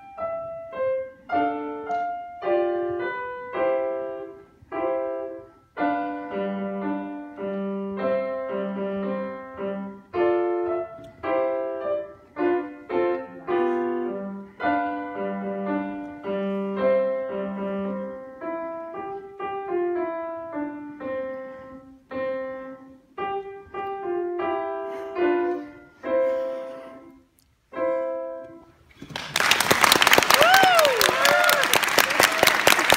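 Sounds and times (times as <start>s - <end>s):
grand piano playing: 0.0s - 28.9s.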